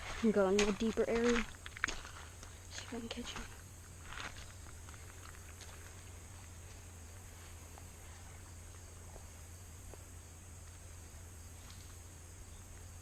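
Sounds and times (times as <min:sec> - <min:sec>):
insects buzzing: 0:00.0 - 0:13.0
low steady hum: 0:00.0 - 0:13.0.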